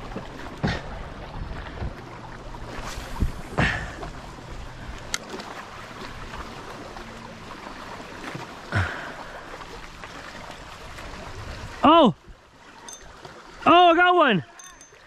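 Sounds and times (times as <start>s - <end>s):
water lapping around legs: 0.0s - 15.0s
water splashes: 0.0s - 15.0s.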